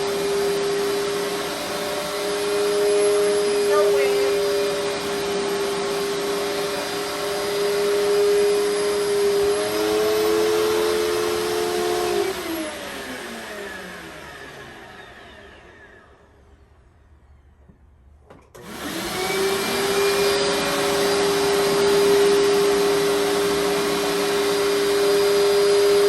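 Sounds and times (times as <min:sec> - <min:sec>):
carpet cleaner motor whining: 0:00.0 - 0:26.0.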